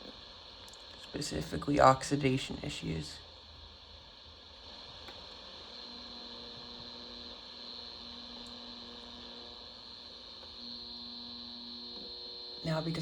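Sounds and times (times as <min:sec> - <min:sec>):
radio static hiss and hum: 0:00.0 - 0:03.4, 0:05.5 - 0:13.0
faint steady tones: 0:00.0 - 0:13.0.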